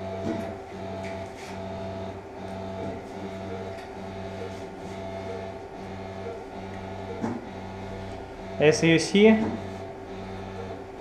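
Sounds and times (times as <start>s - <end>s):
electric equipment hum: 0.0s - 11.0s.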